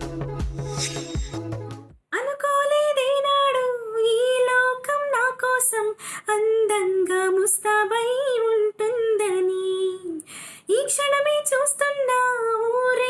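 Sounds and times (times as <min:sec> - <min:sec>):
woman singing unaccompanied: 0:02.1 - 0:13.0.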